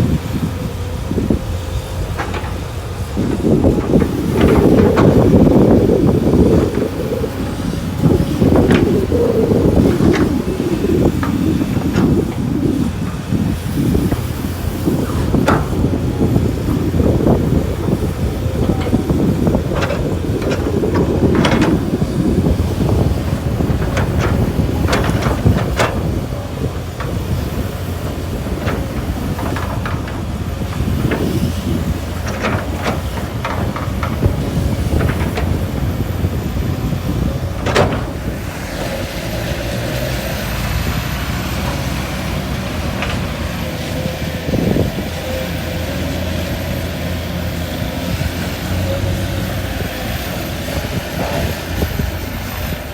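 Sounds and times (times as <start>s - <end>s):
excavator diesel engine under load: 0.0s - 52.9s
metallic clanks and knocks: 1.0s - 46.3s.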